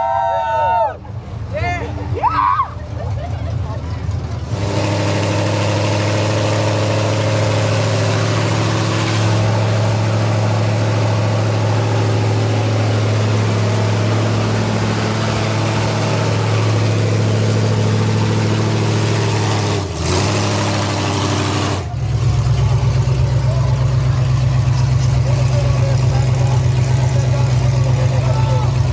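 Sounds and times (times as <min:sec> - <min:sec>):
heavy vehicle engines revving high: 0:00.0 - 0:28.9.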